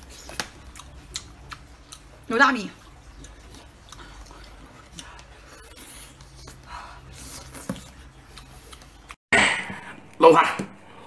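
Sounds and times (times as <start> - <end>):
person chewing and sucking: 0.0 - 9.2.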